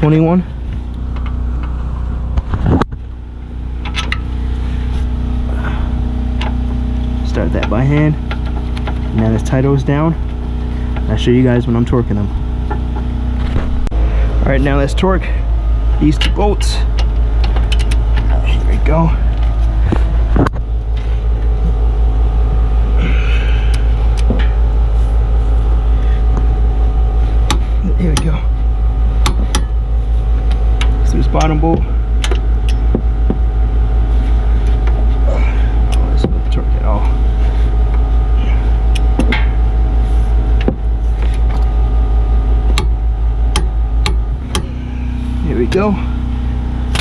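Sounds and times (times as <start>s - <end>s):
engine running: 0.0s - 47.0s
low rumble: 0.0s - 47.0s.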